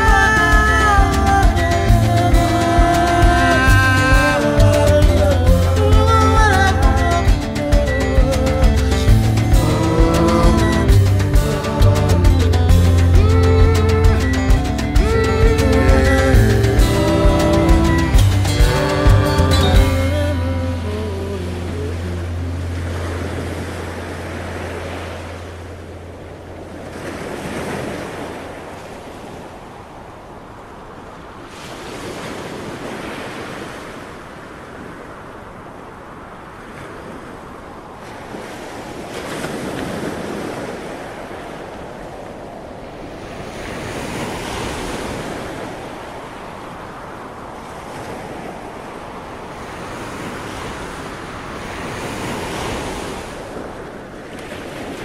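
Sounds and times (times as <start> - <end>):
waves breaking: 0.0 - 55.0.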